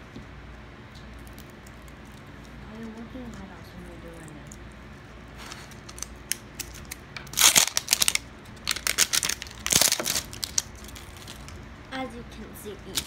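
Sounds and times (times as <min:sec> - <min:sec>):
plastic wrapper tearing and crinkling: 0:01.0 - 0:11.6.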